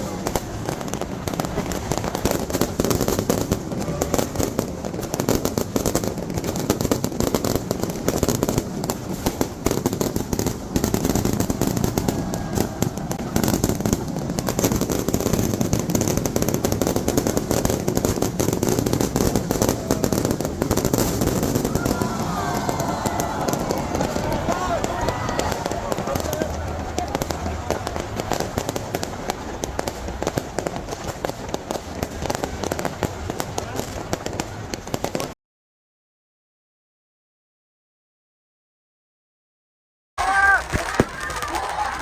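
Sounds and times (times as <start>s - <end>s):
fireworks bangs and crackles: 0.0s - 35.4s, 40.2s - 42.0s.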